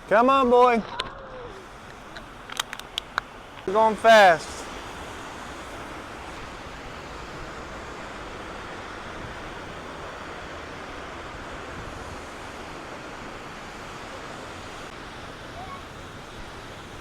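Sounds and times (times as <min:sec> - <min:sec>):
stream and waterfall rushing: 0:00.0 - 0:00.9, 0:01.5 - 0:17.0.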